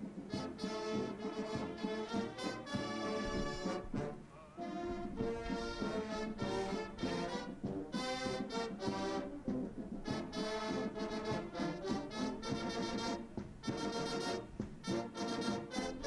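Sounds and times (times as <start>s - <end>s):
brass band playing: 0.0s - 16.0s.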